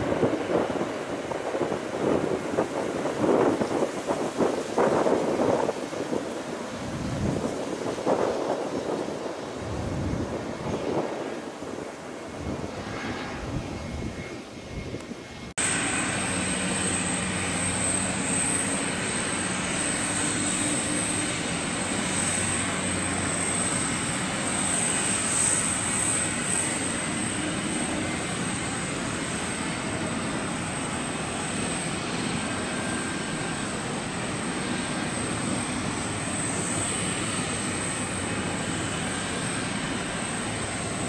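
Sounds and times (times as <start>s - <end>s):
jet engine noise with whine: 0.0s - 41.0s.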